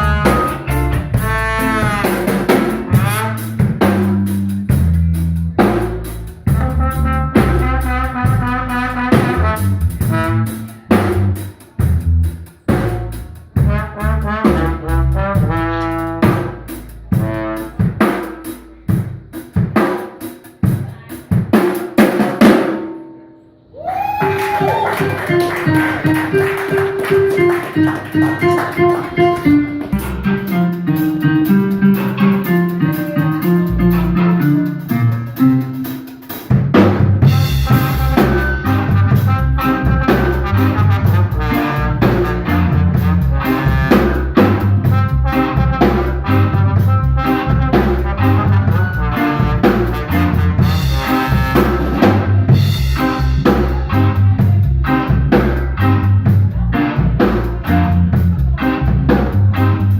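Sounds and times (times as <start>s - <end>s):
guitar: 0.0s - 19.8s, 22.6s - 59.9s
live band playing: 0.0s - 59.9s.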